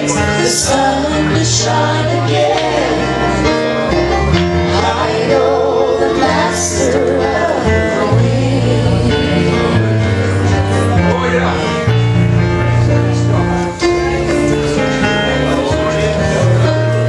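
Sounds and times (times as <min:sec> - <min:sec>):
guitar playing chords: 0:00.0 - 0:17.0
live country gospel music: 0:00.0 - 0:17.0.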